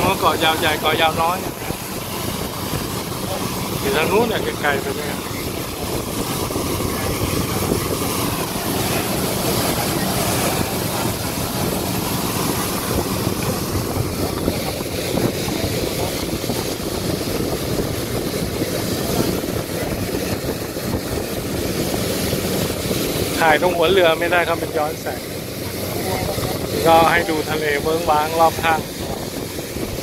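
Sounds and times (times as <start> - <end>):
boat engine running: 0.0 - 30.0
water rushing past hull: 0.0 - 30.0
wind noise on microphone: 0.0 - 30.0.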